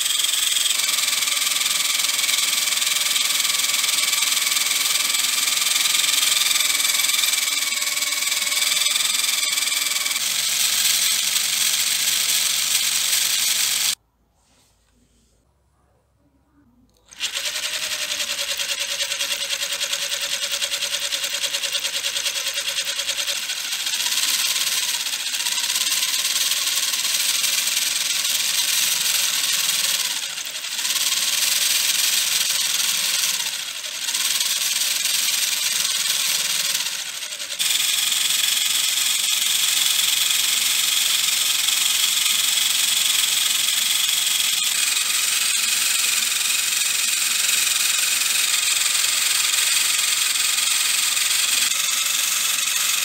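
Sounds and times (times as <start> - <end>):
plastic gears whirring and rattling: 0.0 - 14.0, 17.0 - 53.0.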